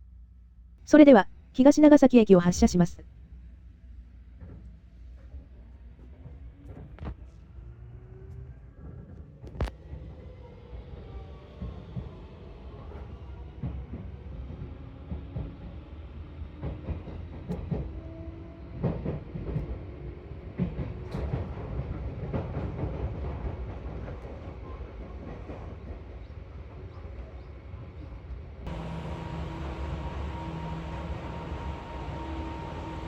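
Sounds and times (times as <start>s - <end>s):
electric train rumbling: 3.6s - 33.0s.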